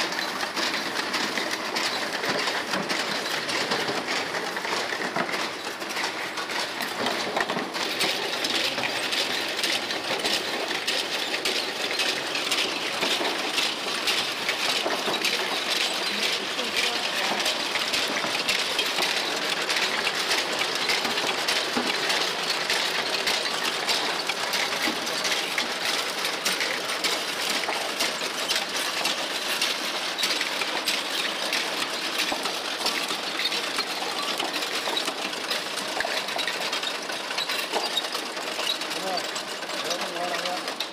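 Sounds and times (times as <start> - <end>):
labeling machine running: 0.0 - 40.9.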